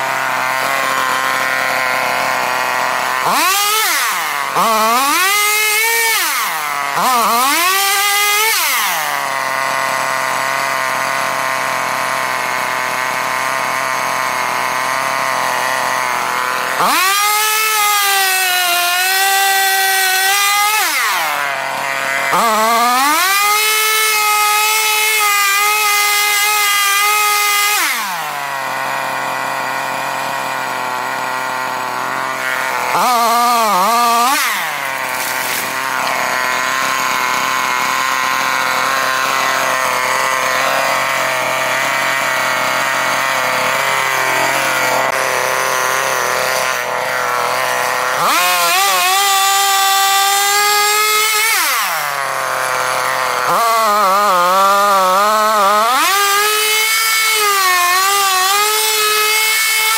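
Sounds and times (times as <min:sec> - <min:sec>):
chainsaw cutting wood: 0:00.0 - 0:59.9
chainsaw idling and revving: 0:00.0 - 0:59.9.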